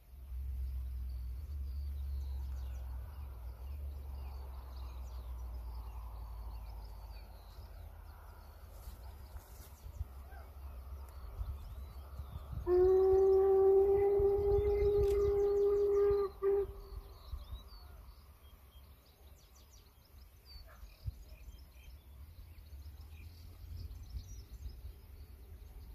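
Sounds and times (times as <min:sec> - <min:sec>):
distant birds chirping: 0:00.0 - 0:25.9
wind rumble on microphone: 0:00.0 - 0:25.9.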